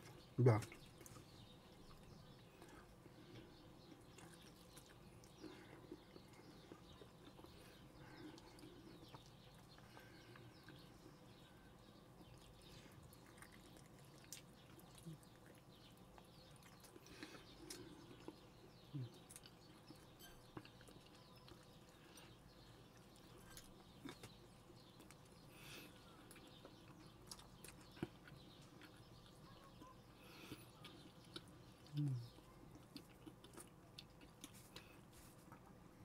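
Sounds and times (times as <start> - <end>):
chewing and mouth clicks: 0.0 - 35.8.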